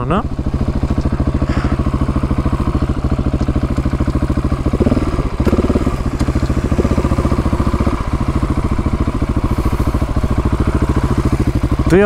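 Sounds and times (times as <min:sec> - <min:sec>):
motorcycle engine thumping: 0:00.0 - 0:12.0.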